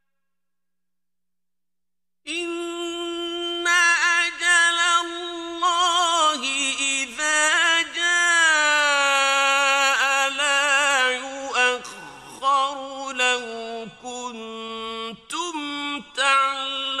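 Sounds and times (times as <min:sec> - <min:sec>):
man chanting recitation: 0:02.3 - 0:17.0.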